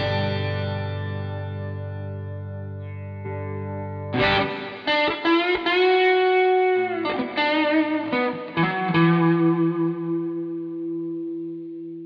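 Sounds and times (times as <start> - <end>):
electric guitar playing: 0.0 - 12.0.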